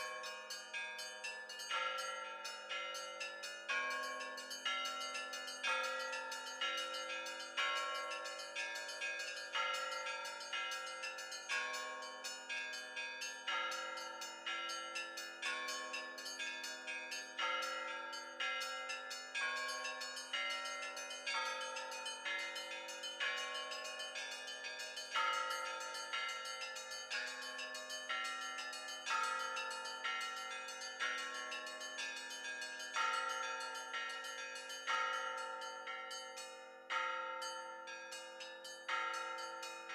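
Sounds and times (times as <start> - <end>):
church bells rung by hand: 0.0 - 39.9.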